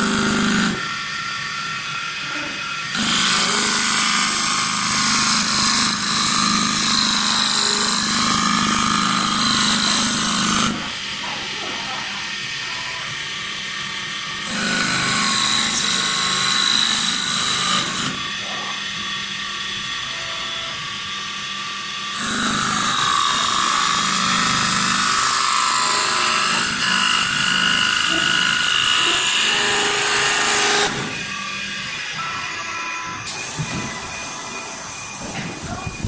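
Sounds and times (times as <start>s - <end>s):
lathe cutting wood: 0.0s - 11.6s, 12.2s - 36.0s.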